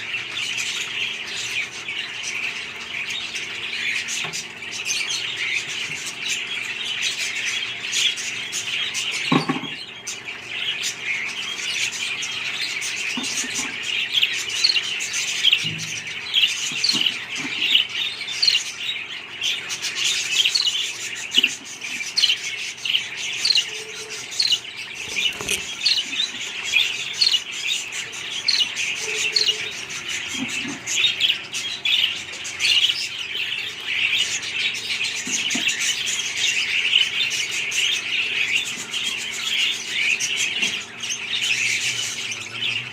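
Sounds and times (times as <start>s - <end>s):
budgerigars chirping and warbling: 0.0s - 42.9s.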